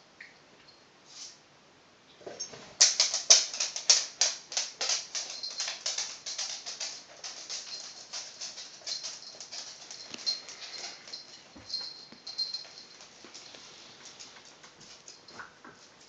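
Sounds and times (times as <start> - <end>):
claws clicking on hardwood floor: 2.5 - 16.0.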